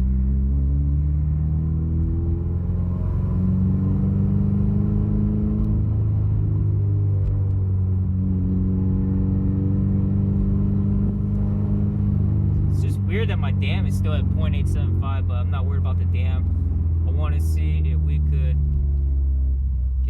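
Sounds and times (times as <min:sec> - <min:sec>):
car engine running: 0:01.6 - 0:20.0.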